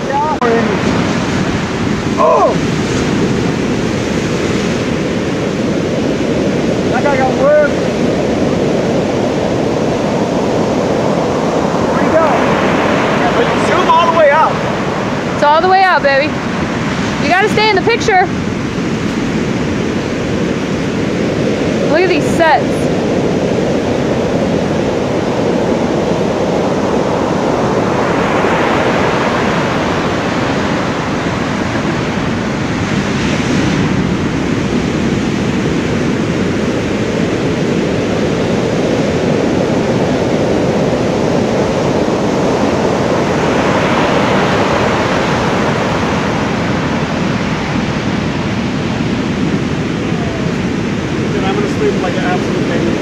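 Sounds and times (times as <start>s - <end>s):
heavy surf breaking: 0.0s - 53.0s.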